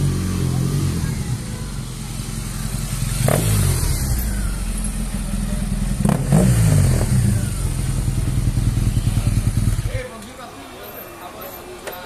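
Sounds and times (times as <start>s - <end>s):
motorcycle engine revving and idling: 0.0s - 10.1s.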